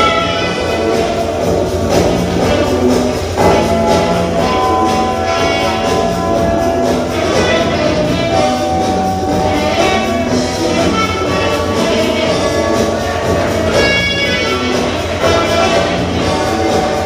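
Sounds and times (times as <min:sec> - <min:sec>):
loud brass music with beat: 0:00.0 - 0:17.0.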